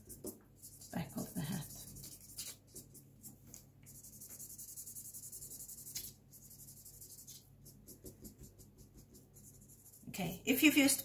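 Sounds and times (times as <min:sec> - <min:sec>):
felt-tip pen scribbling on paper: 0:00.0 - 0:03.0, 0:03.9 - 0:10.2.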